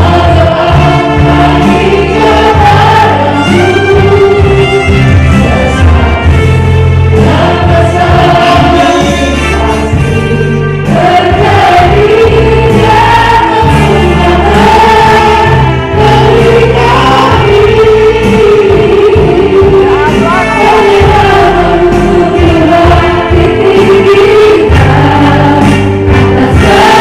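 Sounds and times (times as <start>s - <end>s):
group singing gospel: 0.0s - 27.0s
instrumental backing: 0.0s - 27.0s.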